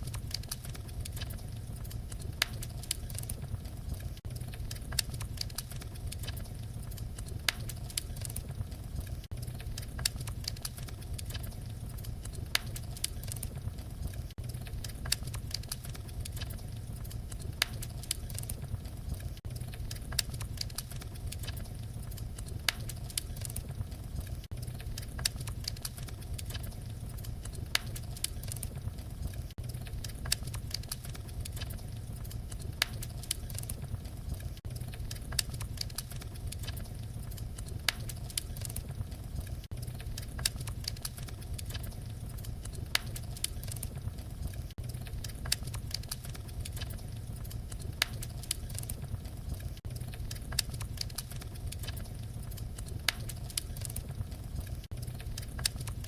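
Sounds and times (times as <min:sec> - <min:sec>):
fireplace fire crackling: 0:00.0 - 0:56.0
low fire rumble: 0:00.0 - 0:56.0.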